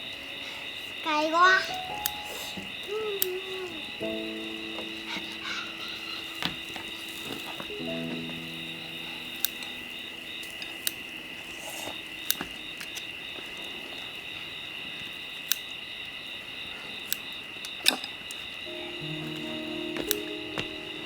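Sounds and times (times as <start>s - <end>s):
night insects chirring: 0.0s - 21.0s
wood fire popping: 0.0s - 21.0s.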